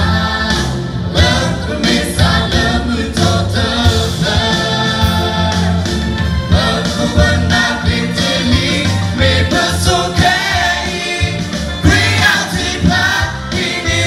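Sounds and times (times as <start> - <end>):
group singing through microphones: 0.0 - 14.0.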